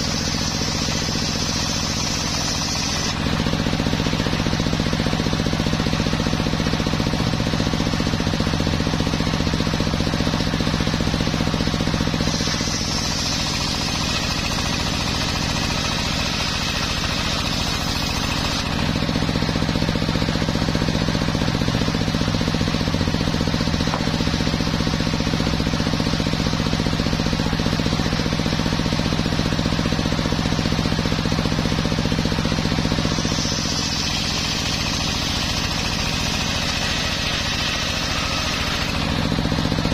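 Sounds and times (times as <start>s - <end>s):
circular saw cutting boards: 0.0s - 7.2s, 8.3s - 28.8s, 30.2s - 39.9s.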